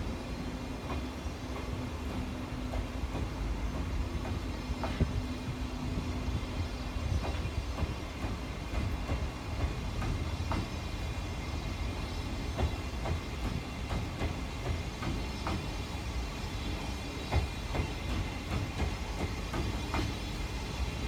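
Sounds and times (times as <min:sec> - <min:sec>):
train coaches rumbling past: 0:00.0 - 0:21.0.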